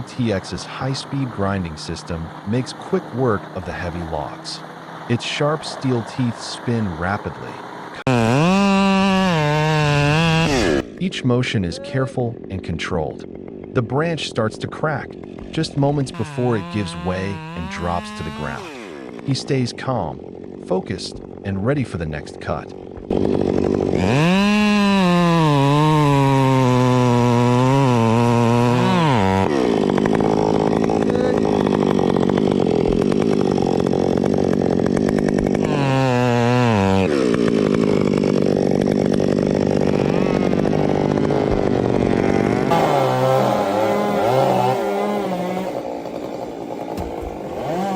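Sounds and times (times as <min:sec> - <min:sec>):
chainsaw running: 0:00.0 - 0:47.9.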